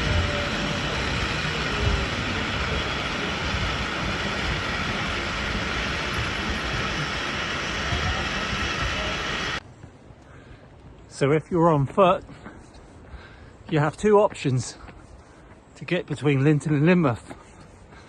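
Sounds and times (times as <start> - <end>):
steady rushing outdoor noise: 0.0 - 18.0.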